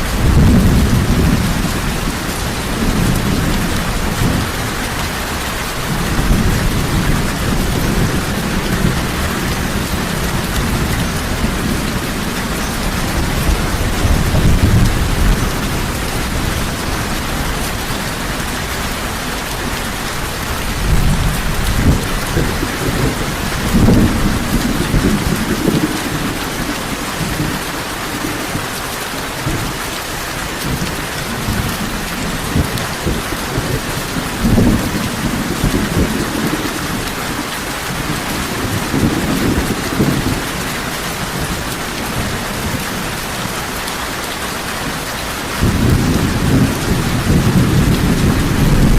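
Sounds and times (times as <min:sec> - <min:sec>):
low thunder rumbling: 0:00.0 - 0:28.8, 0:30.5 - 0:43.6, 0:44.8 - 0:48.9
heavy rain falling: 0:00.0 - 0:48.9.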